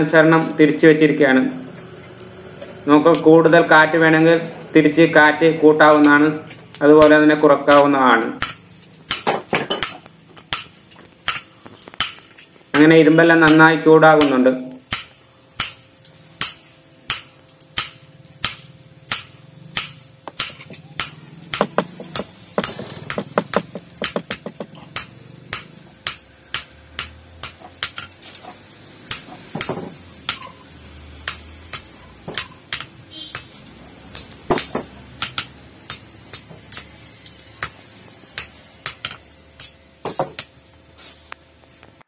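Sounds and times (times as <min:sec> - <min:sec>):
hammer striking iron on anvil: 0:05.8 - 0:33.5, 0:34.1 - 0:40.5.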